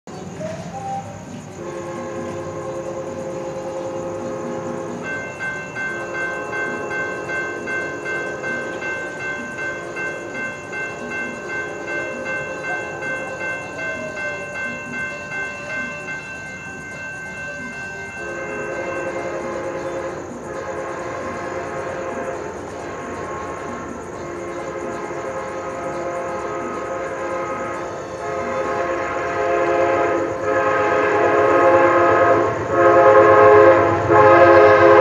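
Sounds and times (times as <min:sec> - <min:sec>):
crossing bell ringing: 0:00.1 - 0:35.0
train horn blasts: 0:00.6 - 0:35.0.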